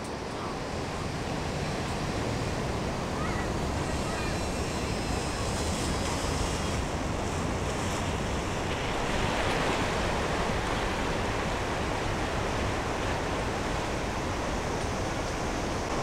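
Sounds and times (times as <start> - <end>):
ocean surf washing onto shore: 0.0 - 16.0
wind rumbling on microphone: 0.0 - 16.0.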